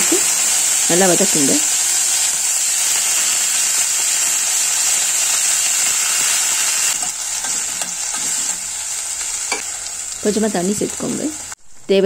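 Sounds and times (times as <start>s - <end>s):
beans sizzling in hot oil: 0.0s - 11.9s.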